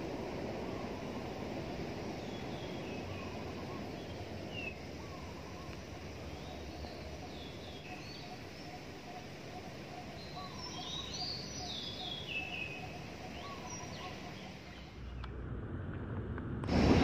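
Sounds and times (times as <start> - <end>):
city background noise: 0.0 - 17.0
small birds chirping: 0.4 - 15.3.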